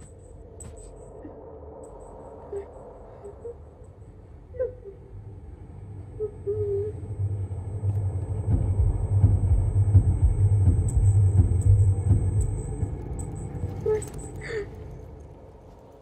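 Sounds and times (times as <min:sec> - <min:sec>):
faint wavering whines: 0:00.0 - 0:16.0
low rumble: 0:00.0 - 0:16.0.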